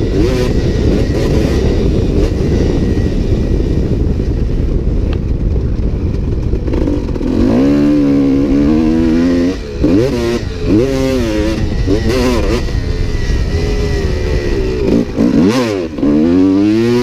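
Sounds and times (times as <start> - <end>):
dirt bike engine revving: 0.0 - 5.5, 6.1 - 17.0.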